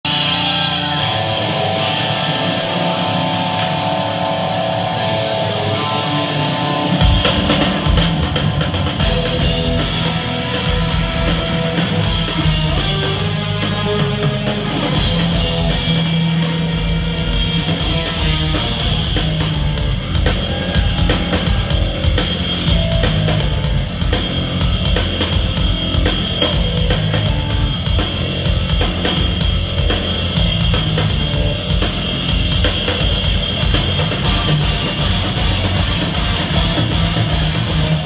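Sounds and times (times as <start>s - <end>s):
drums: 0.0s - 38.0s
electric guitar: 0.0s - 38.0s
metal band playing live: 0.0s - 38.0s.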